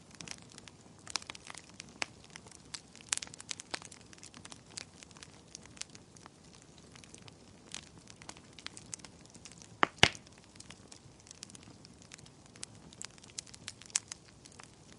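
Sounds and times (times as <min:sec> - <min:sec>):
campfire crackling: 0:00.0 - 0:14.9
loud fire pops: 0:00.1 - 0:14.9.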